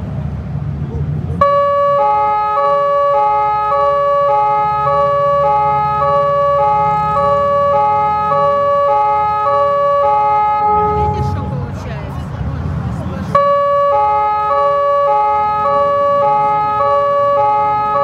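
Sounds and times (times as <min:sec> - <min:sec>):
vehicle engines rumbling: 0:00.0 - 0:18.0
two-tone police siren: 0:01.4 - 0:11.6, 0:13.3 - 0:18.0.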